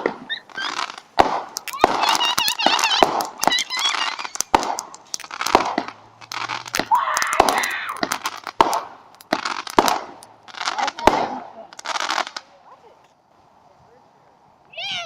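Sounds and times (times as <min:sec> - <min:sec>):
fireworks cracking: 0:00.0 - 0:13.2
fireworks crackling: 0:00.0 - 0:15.0.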